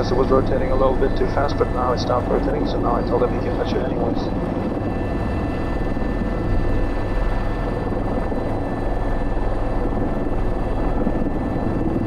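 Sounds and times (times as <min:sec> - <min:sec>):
helicopter rotor and turbine: 0:00.0 - 0:12.0.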